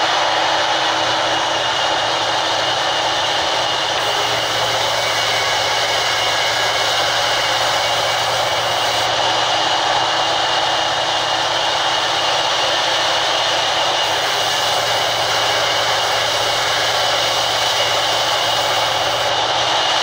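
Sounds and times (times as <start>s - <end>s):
band saw cutting wood: 0.0s - 20.0s.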